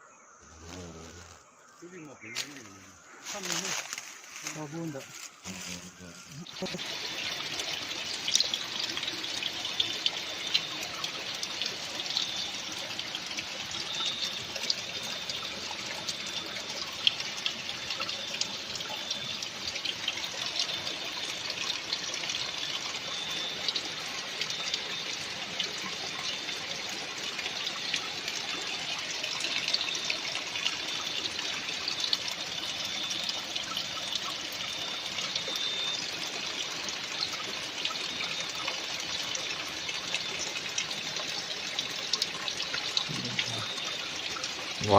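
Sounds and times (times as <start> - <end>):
running water rushing: 0.5 - 44.9
water splashes: 0.6 - 44.9.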